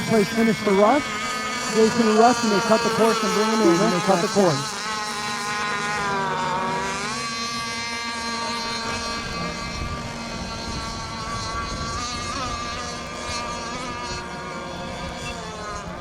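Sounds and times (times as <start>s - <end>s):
rc boat motor whine: 0.0s - 16.0s.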